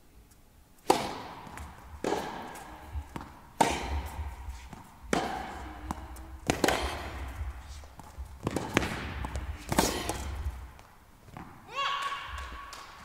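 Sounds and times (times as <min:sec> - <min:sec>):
tennis racket striking ball: 0:00.8 - 0:11.7.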